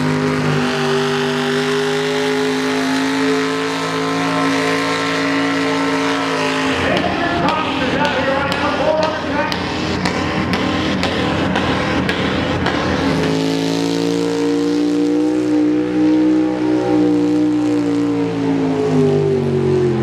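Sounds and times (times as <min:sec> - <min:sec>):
high-revving engine drone: 0:00.0 - 0:20.0
truck engine roaring at full throttle: 0:00.0 - 0:20.0.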